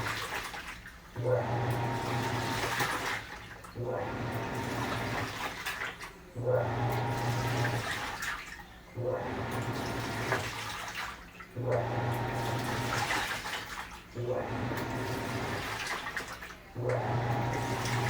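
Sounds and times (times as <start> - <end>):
water sloshing: 0.0 - 8.7, 9.4 - 18.0
washing machine motor humming: 0.0 - 18.0.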